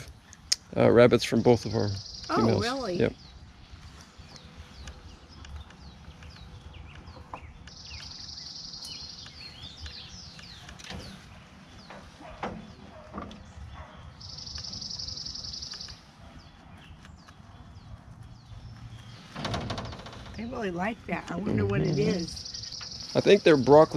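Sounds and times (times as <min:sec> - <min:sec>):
songbirds chirping: 0:00.0 - 0:23.9.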